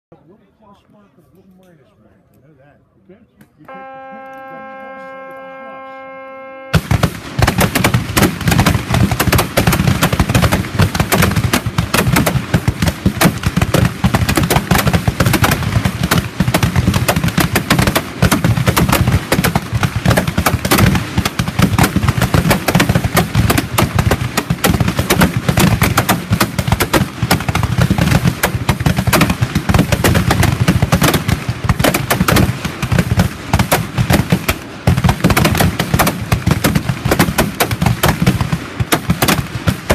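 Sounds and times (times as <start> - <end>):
revolver gunshots barrage: 6.7 - 39.9.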